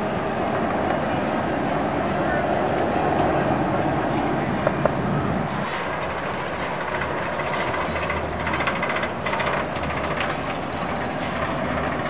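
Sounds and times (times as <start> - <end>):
roller coaster train rumbling: 0.0 - 12.0.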